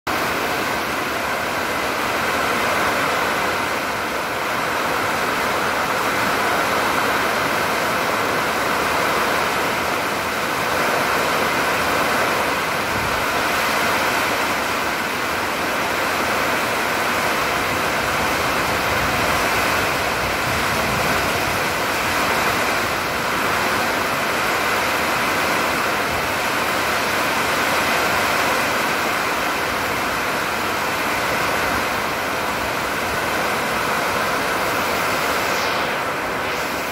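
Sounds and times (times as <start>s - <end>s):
heavy rain pouring: 0.1s - 36.9s.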